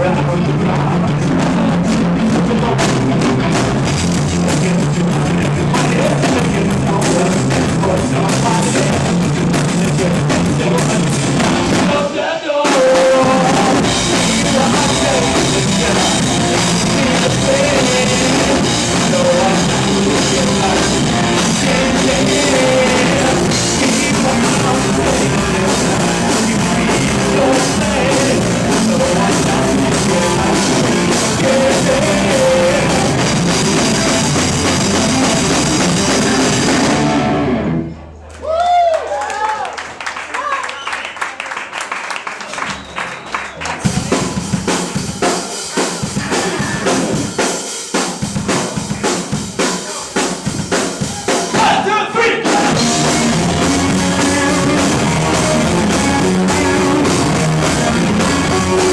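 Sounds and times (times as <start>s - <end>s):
drum kit: 0.0s - 38.0s, 42.6s - 58.9s
rock band playing live: 0.0s - 38.0s, 43.8s - 58.9s.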